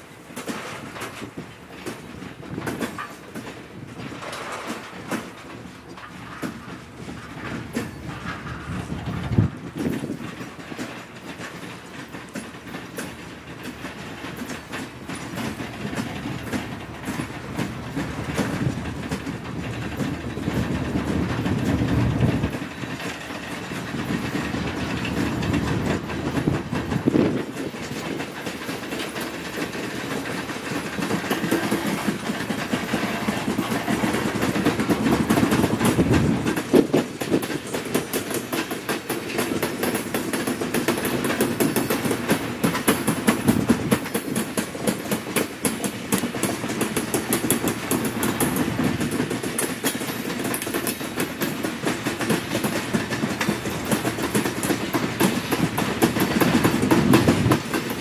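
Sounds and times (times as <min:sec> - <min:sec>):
train rumble: 0:00.0 - 0:58.0
train wheels clacking: 0:00.0 - 0:58.0.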